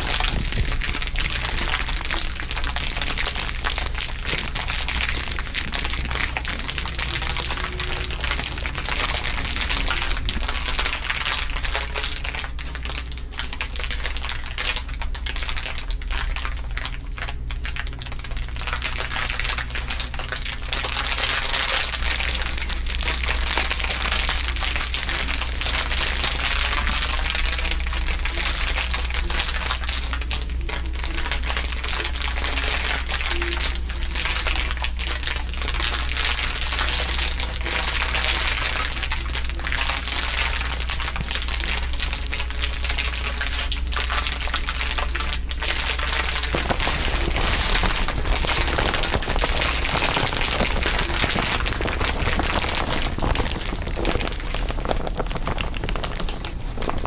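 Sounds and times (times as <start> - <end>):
dense crinkling: 0.0 - 57.0
steady low hum: 0.0 - 57.0.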